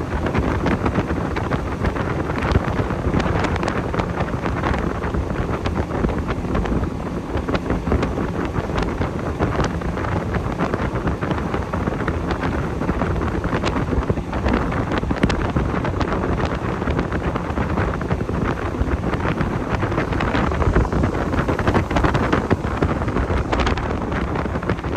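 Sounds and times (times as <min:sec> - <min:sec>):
boat motor running: 0:00.0 - 0:24.9
wind buffeting microphone: 0:00.0 - 0:24.9.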